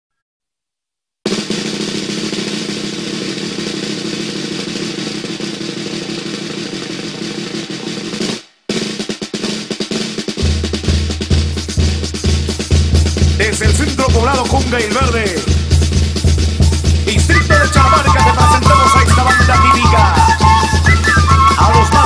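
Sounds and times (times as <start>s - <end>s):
snare drum roll: 1.3s - 22.0s
snare drum strokes: 1.3s - 22.0s.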